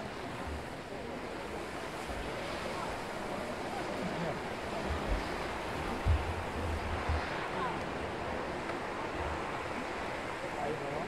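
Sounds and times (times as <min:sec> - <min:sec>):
murmur of crowd: 0:00.0 - 0:11.0.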